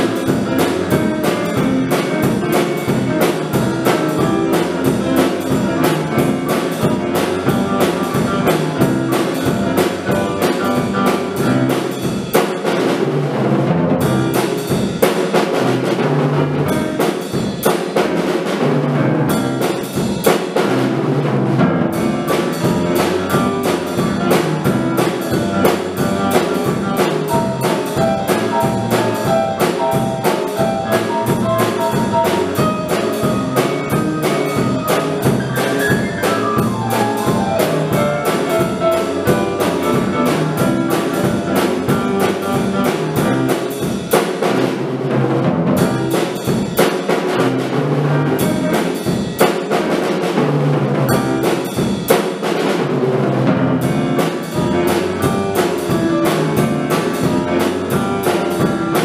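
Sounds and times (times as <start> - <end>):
piano melody and chords: 0.0 - 13.0, 14.0 - 44.8, 45.8 - 50.4, 51.1 - 52.7, 53.4 - 59.0
drum kit beat: 0.0 - 50.4, 51.0 - 59.0.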